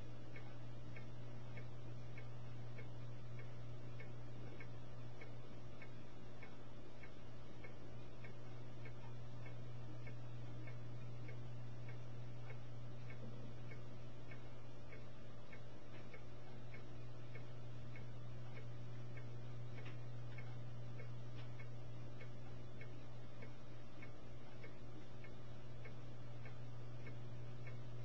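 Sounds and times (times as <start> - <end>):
faint repeating ticking: 0.0 - 28.0
steady low hum: 0.0 - 28.0.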